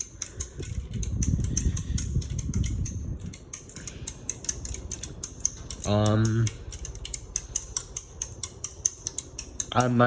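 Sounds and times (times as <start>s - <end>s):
ceiling fan air rush: 0.0s - 10.0s
fan ticking: 0.0s - 10.0s.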